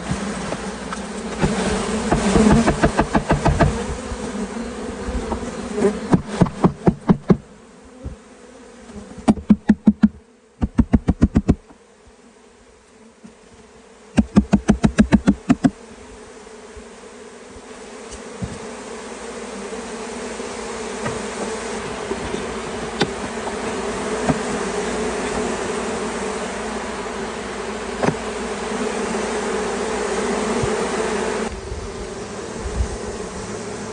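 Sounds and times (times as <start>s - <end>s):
bee swarm buzzing: 0.0s - 33.9s.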